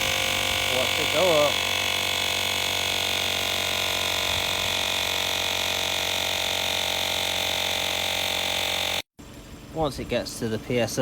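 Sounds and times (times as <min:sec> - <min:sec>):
tyre inflator compressor running: 0:00.0 - 0:09.6.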